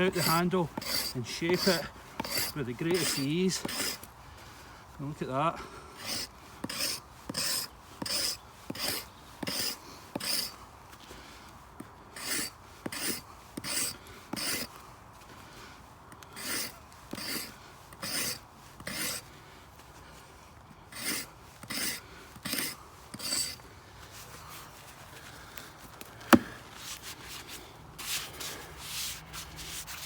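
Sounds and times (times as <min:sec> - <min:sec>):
hatchet shaving wood: 0:00.0 - 0:04.1, 0:05.0 - 0:10.6, 0:12.0 - 0:14.8, 0:16.1 - 0:19.4, 0:20.0 - 0:24.5, 0:25.2 - 0:30.0.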